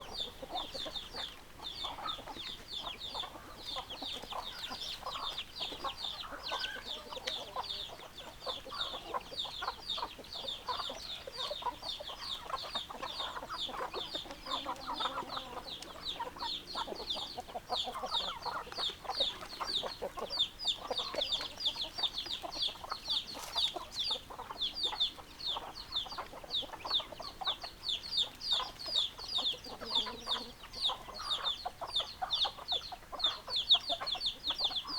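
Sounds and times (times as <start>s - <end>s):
chickens clucking: 0.0s - 34.9s
high-pitched chick peeping: 0.0s - 34.9s.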